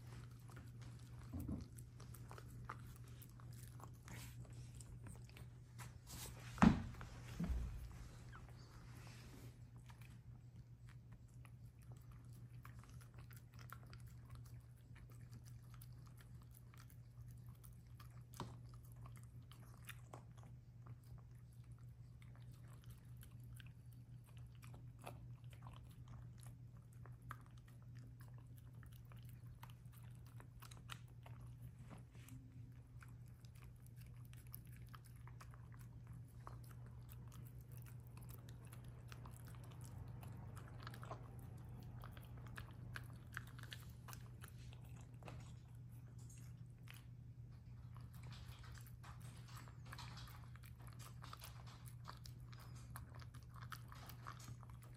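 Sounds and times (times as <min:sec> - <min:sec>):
dog chewing and smacking: 0:00.0 - 0:54.9.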